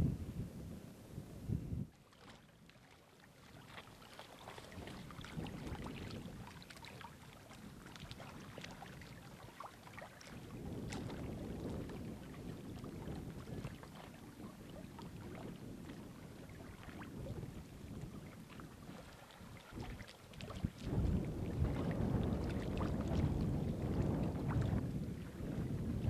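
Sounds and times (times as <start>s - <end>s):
wind buffeting microphone: 0.0s - 2.0s, 4.4s - 26.0s
water lapping among rocks: 1.9s - 26.0s.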